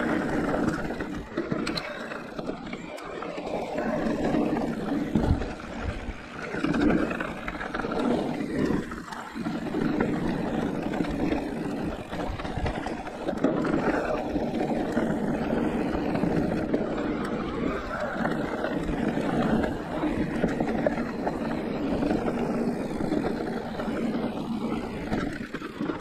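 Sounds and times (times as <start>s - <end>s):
bike tyre noise on dirt: 0.0s - 26.0s
wind rushing over microphone: 3.5s - 26.0s.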